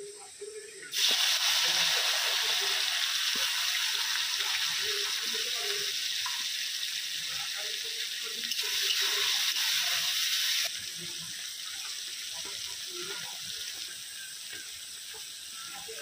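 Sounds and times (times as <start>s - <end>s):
vegetables sizzling in hot oil: 0.9s - 16.0s.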